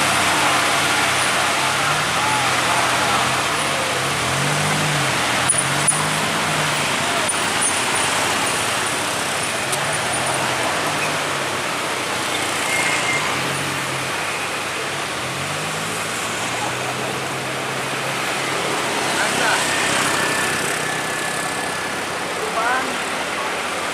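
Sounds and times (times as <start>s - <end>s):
heavy vehicle engine: 0.0s - 23.9s
road noise roar: 0.0s - 23.9s.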